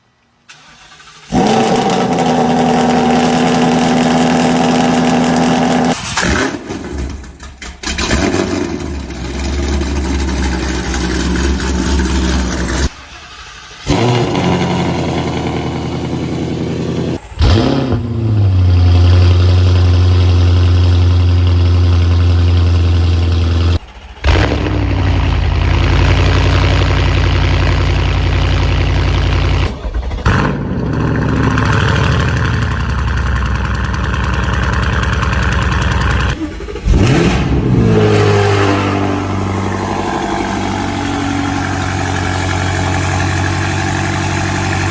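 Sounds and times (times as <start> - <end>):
car engines starting and idling: 0.0 - 44.9.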